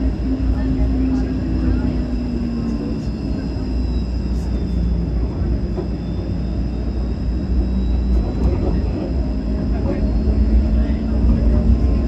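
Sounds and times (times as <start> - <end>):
streetcar rumbling on tracks: 0.0 - 12.0.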